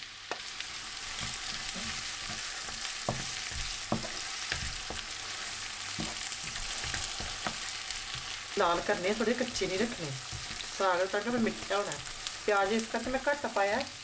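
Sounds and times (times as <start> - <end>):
vegetables sizzling in ghee: 0.0 - 14.0
wooden spatula tapping pan: 1.2 - 5.1, 5.9 - 13.4.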